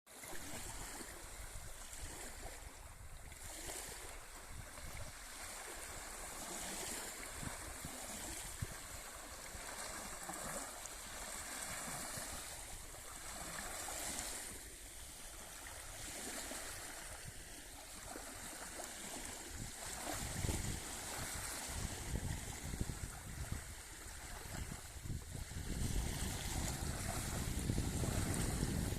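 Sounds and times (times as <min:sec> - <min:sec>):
small waves washing onto shore: 0:00.1 - 0:28.9.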